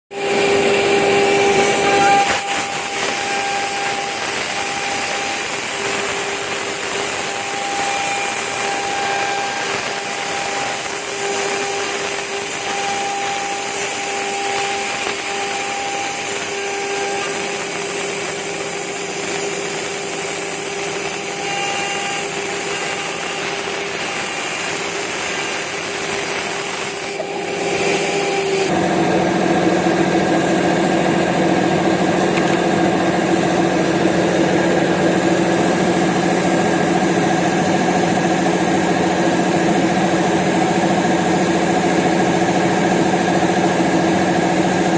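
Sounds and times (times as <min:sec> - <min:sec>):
router milling metal: 0:00.1 - 0:44.9.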